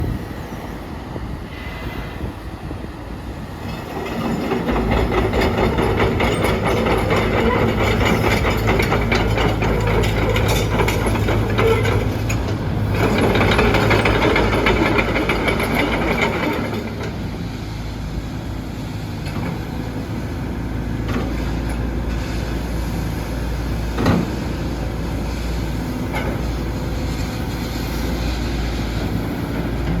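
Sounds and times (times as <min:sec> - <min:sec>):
excavator diesel engine: 0:02.2 - 0:30.0.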